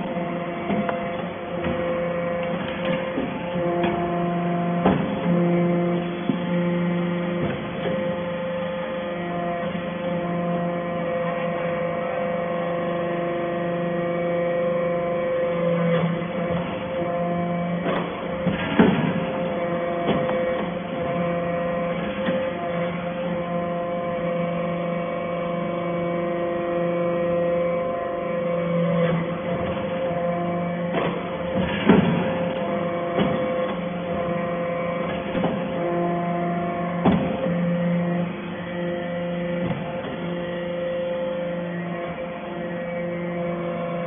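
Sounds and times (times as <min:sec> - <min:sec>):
hydraulic pump hum: 0:00.0 - 0:44.0.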